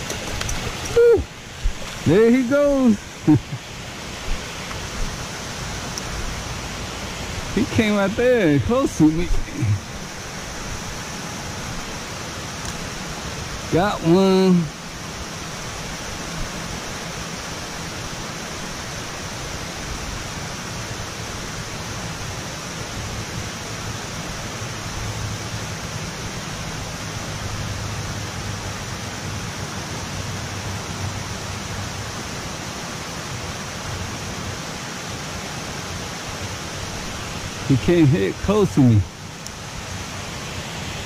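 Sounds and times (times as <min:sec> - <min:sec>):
water rushing through spillway: 0:00.0 - 0:41.0.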